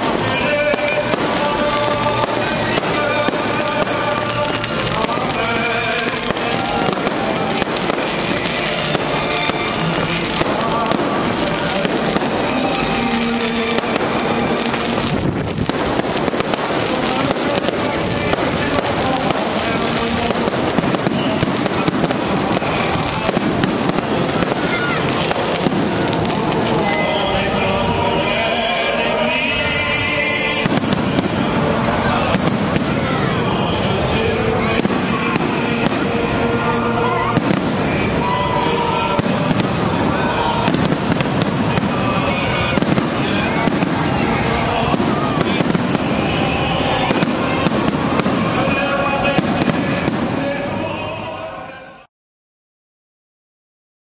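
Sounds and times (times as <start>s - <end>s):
fireworks bangs: 0.0s - 51.9s
continuous rush of noise: 0.0s - 52.1s.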